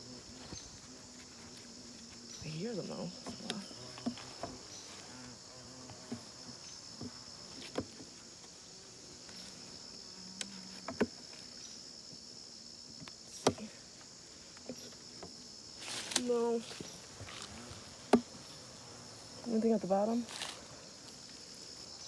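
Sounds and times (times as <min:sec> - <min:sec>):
honeybees humming: 0:00.0 - 0:22.0
insects trilling: 0:00.0 - 0:22.0.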